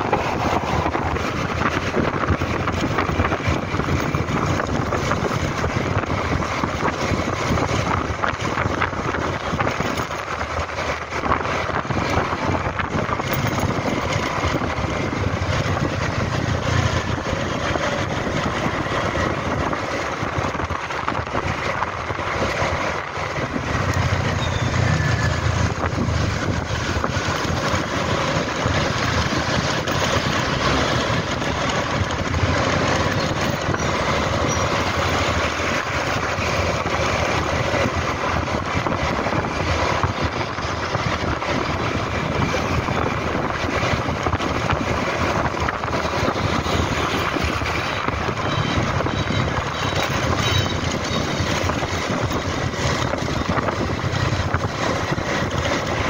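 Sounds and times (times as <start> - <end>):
scooter engine: 0.0 - 56.0
wind on microphone: 0.0 - 56.0.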